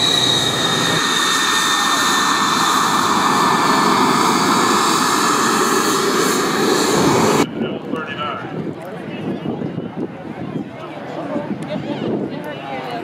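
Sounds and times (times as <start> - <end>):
jet engine whine and rush: 0.0 - 10.4.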